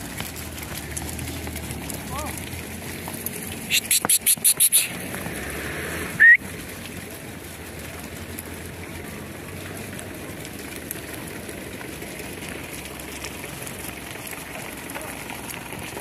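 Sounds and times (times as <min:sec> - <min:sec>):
sheep hooves on gravel: 0:00.0 - 0:16.0.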